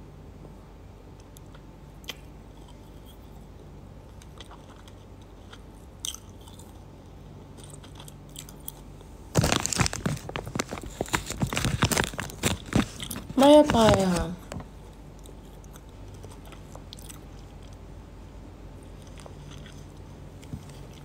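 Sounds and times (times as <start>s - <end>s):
steady low hum: 0.0s - 21.0s
person crunching food: 1.2s - 17.8s, 18.8s - 21.0s.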